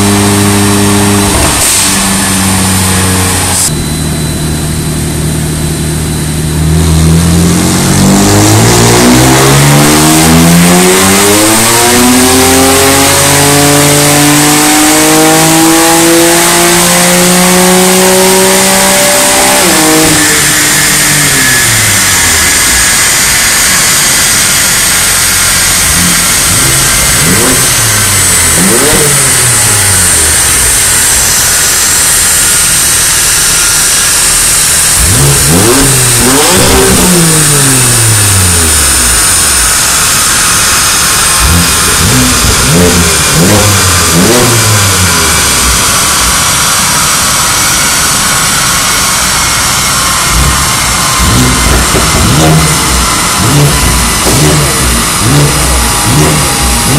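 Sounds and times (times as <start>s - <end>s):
car engine revving on dyno: 0.0s - 56.9s
short engine revs: 0.0s - 56.9s.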